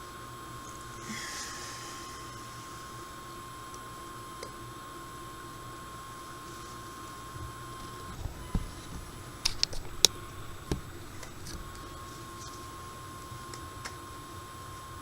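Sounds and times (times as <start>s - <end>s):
washing machine whine: 0.0s - 15.0s.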